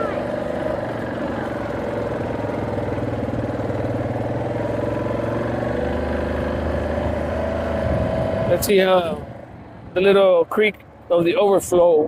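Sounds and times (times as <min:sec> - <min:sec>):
atv engine running: 0:00.0 - 0:10.2.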